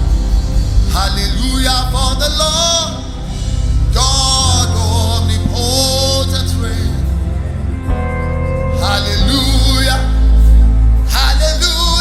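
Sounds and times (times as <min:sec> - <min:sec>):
gospel band playing: 0:00.0 - 0:12.0
person singing: 0:00.7 - 0:12.0.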